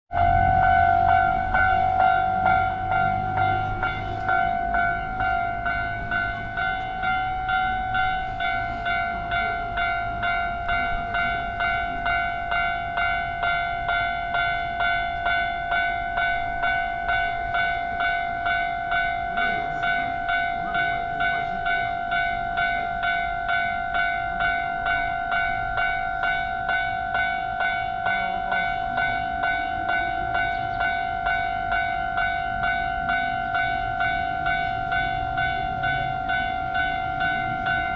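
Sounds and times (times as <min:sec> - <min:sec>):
level crossing warning bell: 0:00.1 - 0:37.9.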